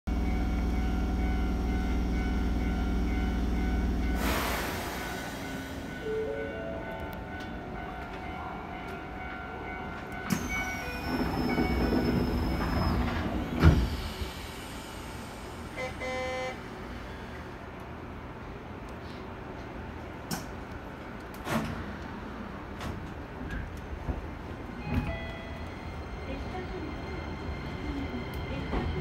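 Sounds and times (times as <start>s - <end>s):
train equipment humming: 0.1s - 29.0s.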